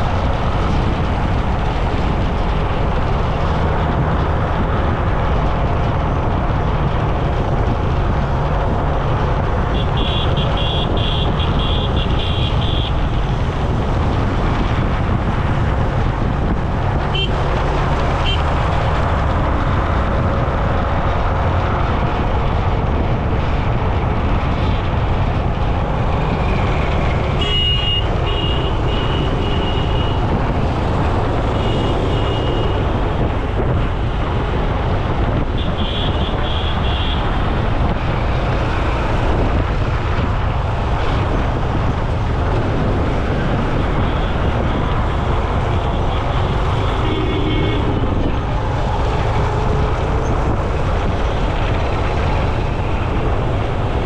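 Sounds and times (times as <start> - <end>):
road traffic rumble: 0.0 - 54.0
wind on microphone: 0.0 - 54.0.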